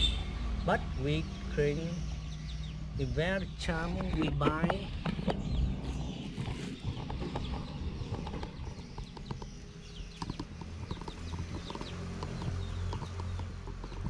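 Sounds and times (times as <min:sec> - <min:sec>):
bird chirps: 0:00.0 - 0:14.0
steady low rumble: 0:00.1 - 0:13.2.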